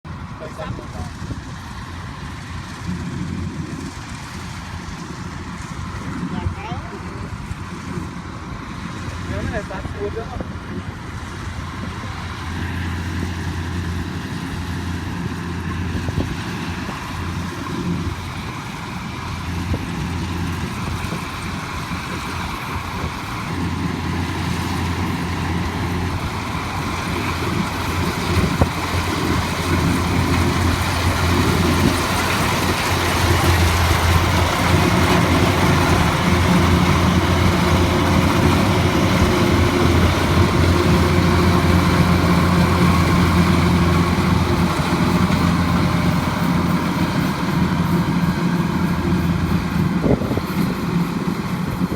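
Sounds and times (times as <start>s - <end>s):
heavy farm machine engine running: 0.1s - 51.9s.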